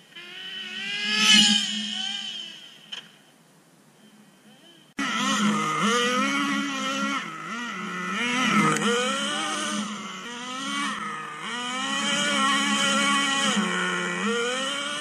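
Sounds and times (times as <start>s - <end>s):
model car engine buzzing: 0.1s - 2.9s, 5.0s - 15.0s.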